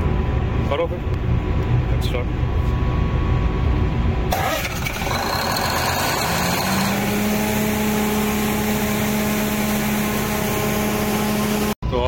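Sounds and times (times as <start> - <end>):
diesel engine starting and running: 0.0 - 12.0.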